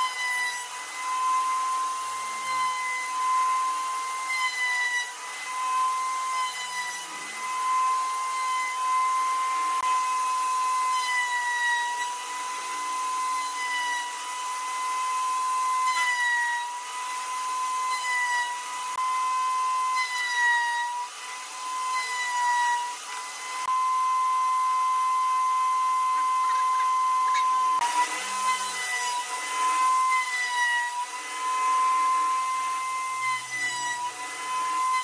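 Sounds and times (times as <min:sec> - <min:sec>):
power tool whining: 0:00.0 - 0:35.0.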